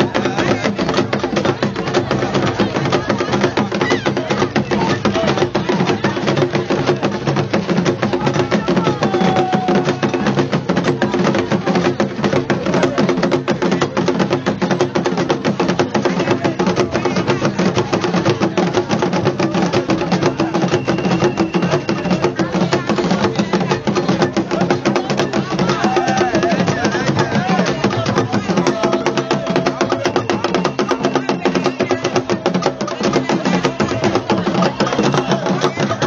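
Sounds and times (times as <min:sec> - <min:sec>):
crowd voices: 0:00.0 - 0:36.0
drums beaten in fast rhythm: 0:00.0 - 0:36.0.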